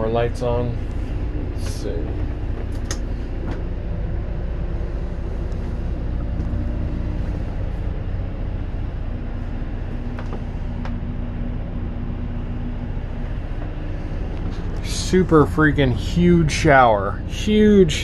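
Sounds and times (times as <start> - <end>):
generator humming: 0.0 - 18.0.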